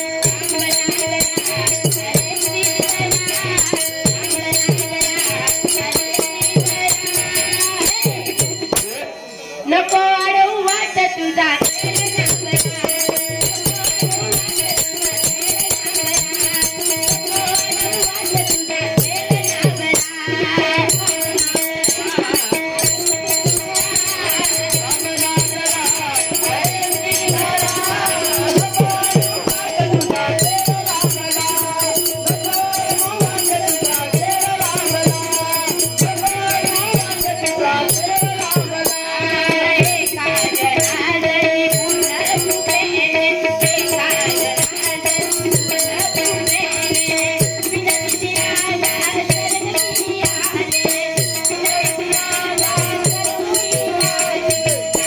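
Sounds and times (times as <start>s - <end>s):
hand cymbals jingling: 0.0s - 55.0s
tabla and barrel drum beat: 0.0s - 55.0s
voices singing a melody: 0.0s - 55.0s.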